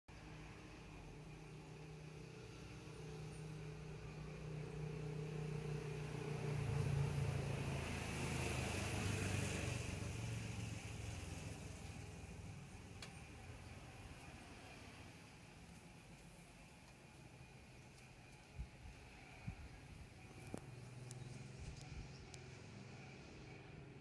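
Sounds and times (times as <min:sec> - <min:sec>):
motor vehicle passing by: 0:00.2 - 0:15.7, 0:18.8 - 0:24.0.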